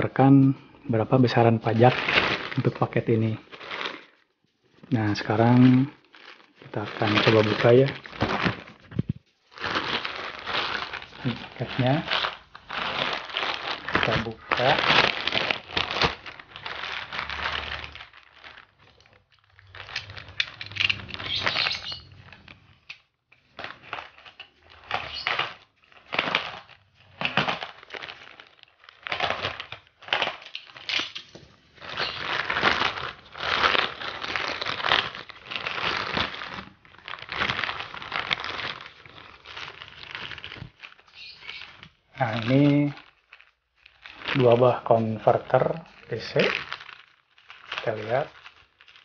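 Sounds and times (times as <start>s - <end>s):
plastic bag crinkling: 0.0s - 49.0s.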